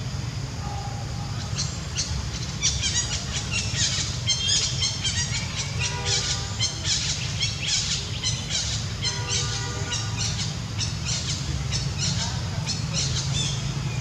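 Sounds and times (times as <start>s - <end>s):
birds chirping: 1.2s - 14.0s.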